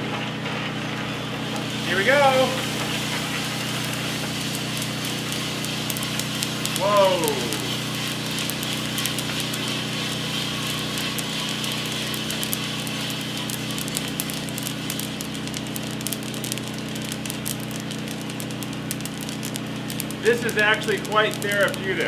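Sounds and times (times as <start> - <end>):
cooling fan air rush: 0.0 - 22.0
roaster motor hum: 0.0 - 22.0
coffee beans clicking: 1.1 - 22.0.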